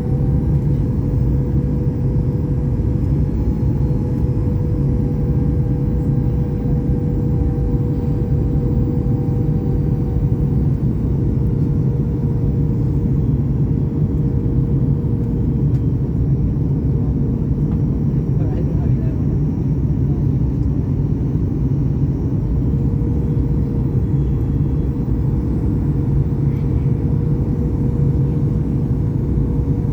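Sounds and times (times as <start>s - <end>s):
airplane cabin rumble: 0.0s - 29.9s
jet engine whine: 0.0s - 29.9s.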